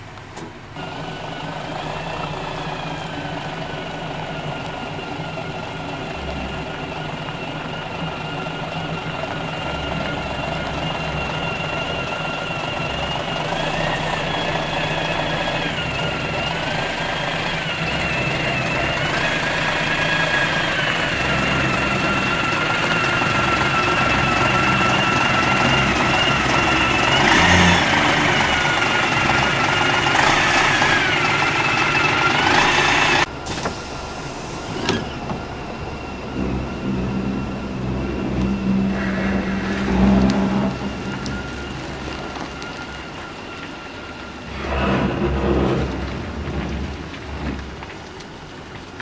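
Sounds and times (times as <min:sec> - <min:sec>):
bus diesel engine running: 0:00.0 - 0:49.0
high whine changing pitch: 0:00.8 - 0:47.8.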